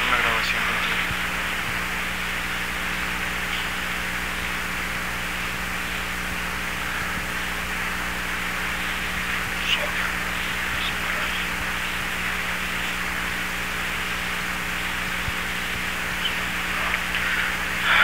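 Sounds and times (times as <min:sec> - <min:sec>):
recorder hiss and hum: 0:00.0 - 0:18.0.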